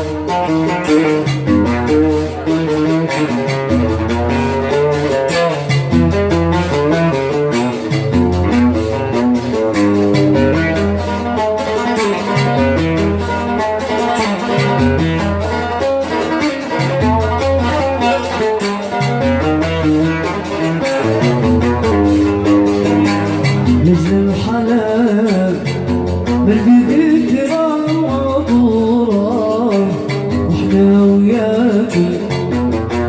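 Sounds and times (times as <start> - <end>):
bass line: 0.0 - 33.0
fast percussion beat: 0.0 - 33.0
plucked-string melody: 0.0 - 33.0.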